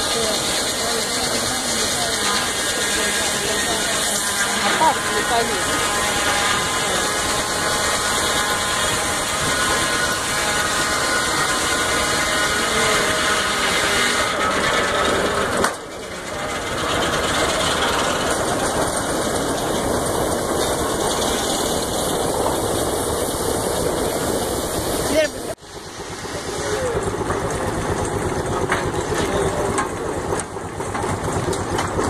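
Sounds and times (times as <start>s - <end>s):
saw ringing whine: 0.0s - 27.4s
sawmill mechanical din: 0.0s - 32.0s.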